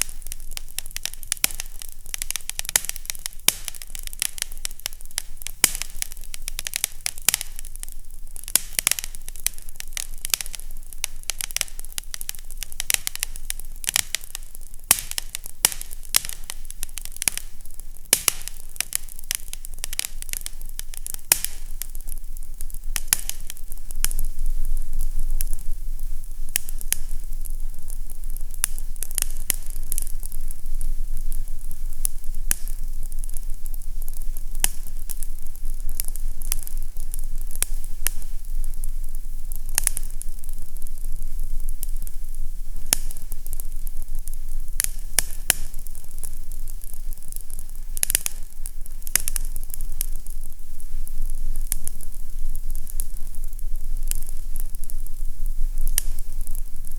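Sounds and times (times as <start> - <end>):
fire crackling and popping: 0.0 - 56.9
steady hiss: 0.0 - 56.9.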